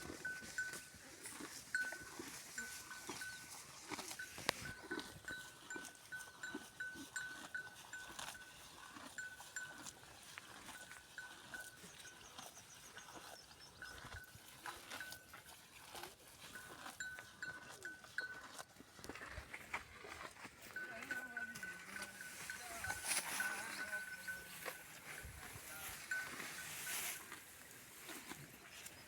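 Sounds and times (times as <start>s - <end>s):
animal neck bell jingling: 0.0s - 29.0s.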